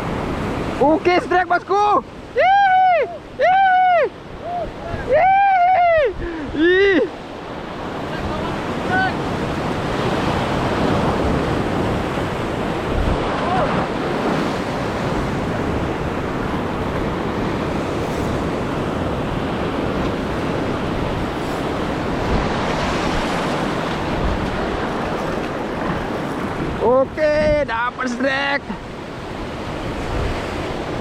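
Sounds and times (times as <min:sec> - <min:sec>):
surf washing over reef: 0:00.0 - 0:31.0
wind buffeting microphone: 0:02.1 - 0:31.0.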